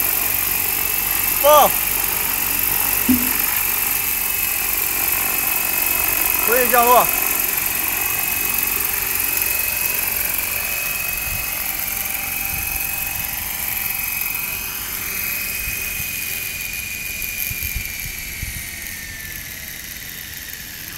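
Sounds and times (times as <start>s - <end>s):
helicopter rotor whine: 0.0s - 20.9s.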